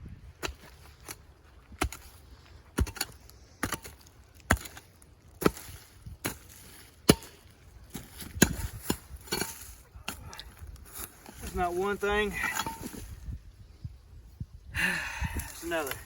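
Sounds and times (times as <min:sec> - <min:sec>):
pick axe striking ground: 0:00.3 - 0:13.4.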